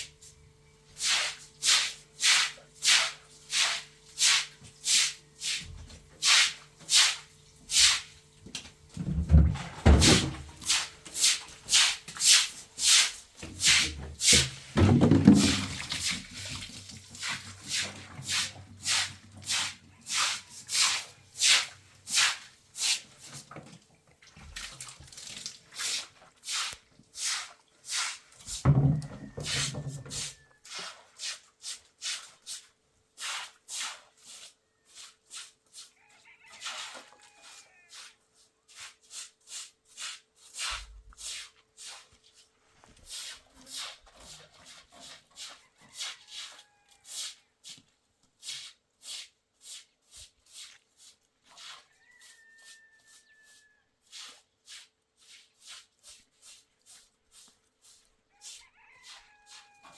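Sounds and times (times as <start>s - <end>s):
hand tool scraping strokes: 1.0s - 8.1s, 9.9s - 23.5s, 25.8s - 59.9s.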